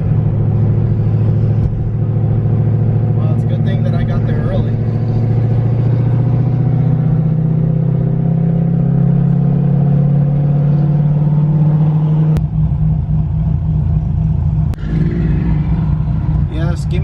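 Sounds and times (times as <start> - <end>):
rough choppy engine rumble: 0.0 - 17.0
vehicle engine running: 0.0 - 17.0.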